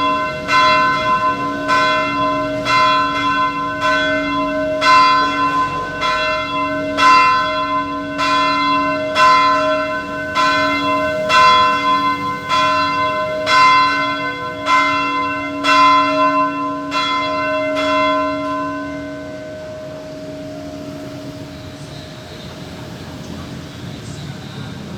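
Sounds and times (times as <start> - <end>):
church bell tolling: 0.0 - 24.9.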